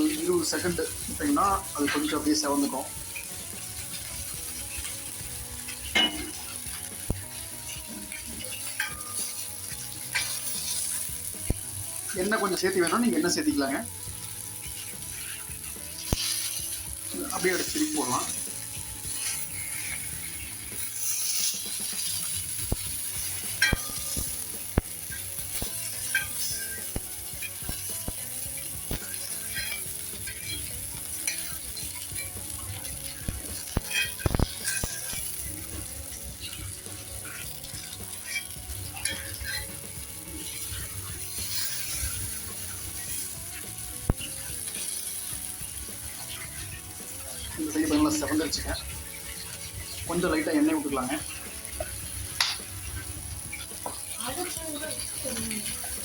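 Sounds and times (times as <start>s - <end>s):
faint background music: 0.0s - 56.0s
fish sizzling in oil: 0.0s - 56.0s
spatula scraping a griddle: 0.0s - 56.0s.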